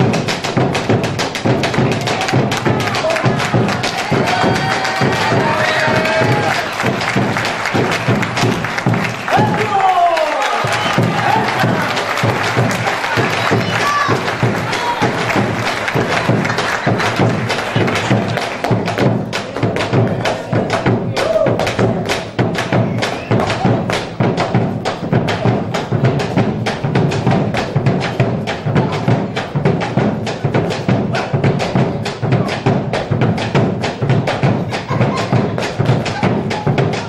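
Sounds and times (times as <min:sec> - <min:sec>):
sharp percussive knocks: 0:00.0 - 0:09.8, 0:10.6 - 0:37.0.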